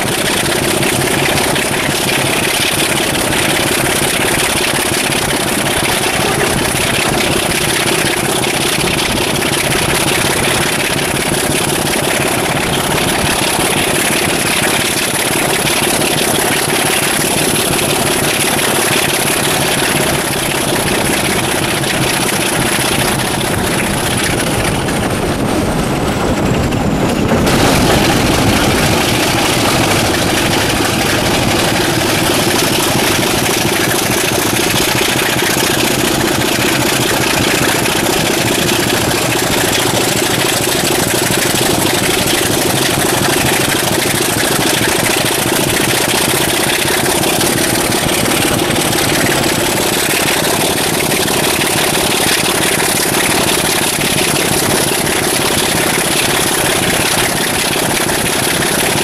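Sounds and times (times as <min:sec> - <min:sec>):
diesel locomotive engine under load: 0:00.0 - 0:59.0.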